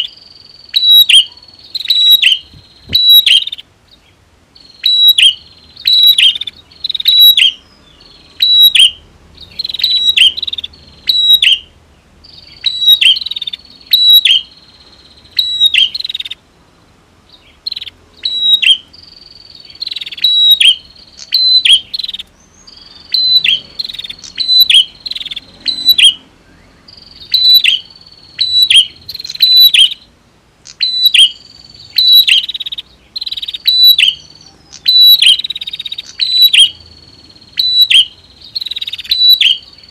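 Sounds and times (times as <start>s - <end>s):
bird high sharp chirps: 0.0s - 16.4s, 17.3s - 39.9s.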